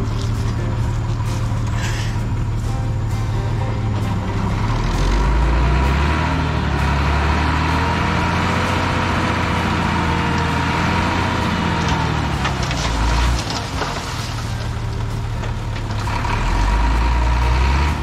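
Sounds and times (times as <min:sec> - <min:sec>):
diesel engine revving: 0:00.0 - 0:18.0.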